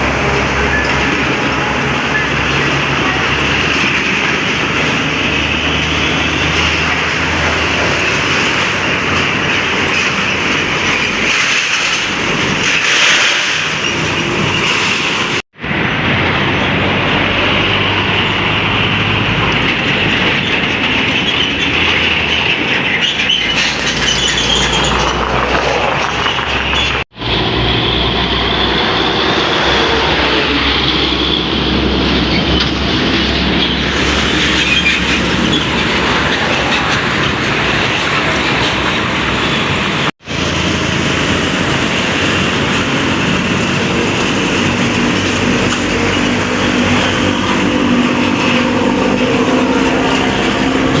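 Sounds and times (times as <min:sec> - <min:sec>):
heavy trucks passing: 0:00.0 - 0:51.0.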